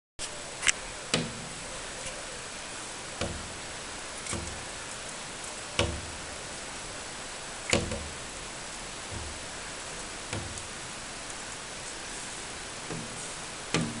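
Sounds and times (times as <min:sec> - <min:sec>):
steady hiss: 0:00.2 - 0:14.0.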